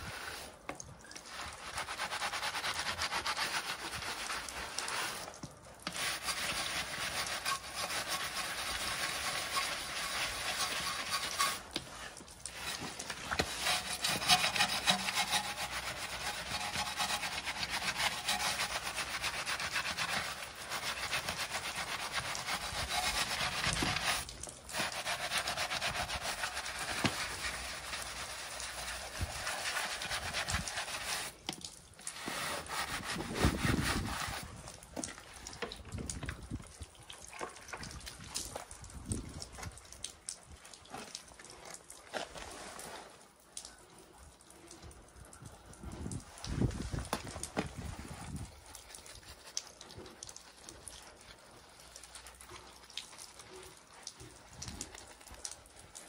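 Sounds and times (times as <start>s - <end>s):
brush scrubbing a wheel: 0.0s - 35.3s, 46.3s - 56.0s.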